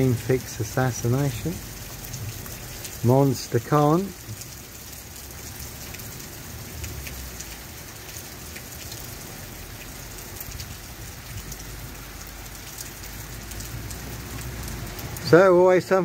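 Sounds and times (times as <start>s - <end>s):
heavy rain hissing: 0.0s - 15.7s
dripping ticks: 1.1s - 15.3s.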